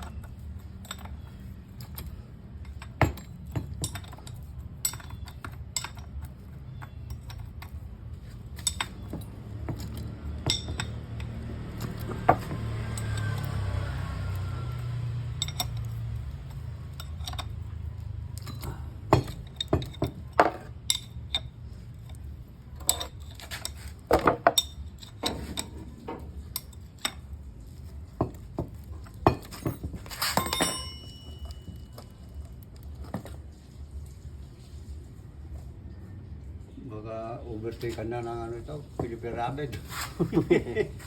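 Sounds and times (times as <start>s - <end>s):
metal tools clinking on bolts: 0.0s - 33.4s.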